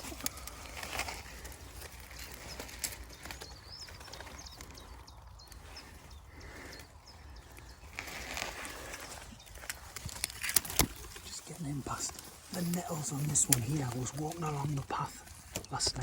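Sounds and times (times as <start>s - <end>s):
footsteps in undergrowth: 0.0s - 16.0s
rustling of undergrowth: 0.0s - 16.0s
faint bird chirps: 0.1s - 15.1s.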